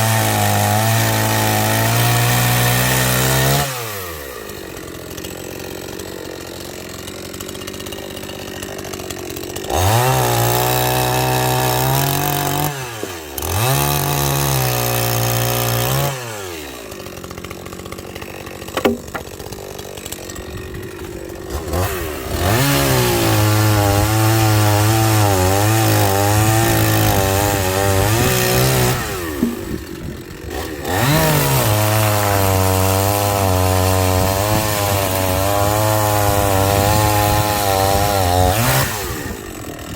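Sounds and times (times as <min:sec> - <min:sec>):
chainsaw cutting logs: 0:00.0 - 0:39.9
chainsaw revving: 0:00.0 - 0:39.9.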